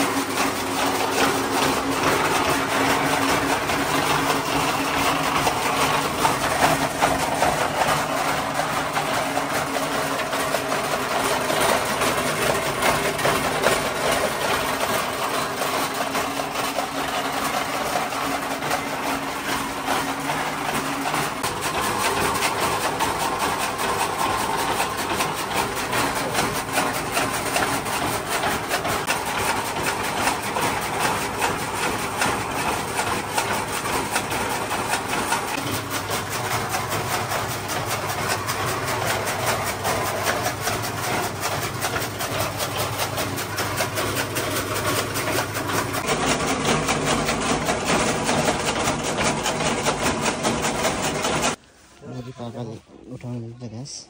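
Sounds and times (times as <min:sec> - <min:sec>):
engine running: 0:00.0 - 0:51.6.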